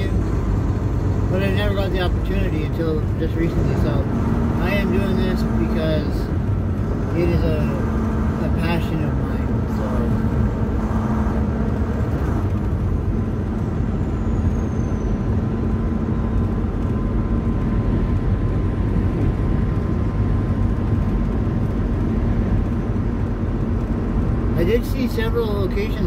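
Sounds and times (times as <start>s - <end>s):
truck engine and road noise: 0.0s - 26.0s.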